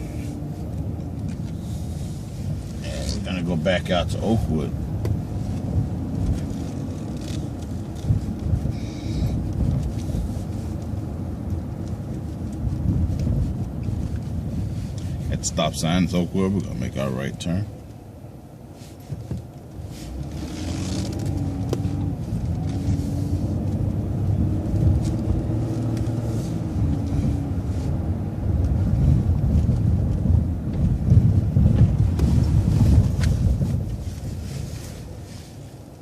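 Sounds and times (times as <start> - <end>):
bus engine rumble: 0.0 - 36.0.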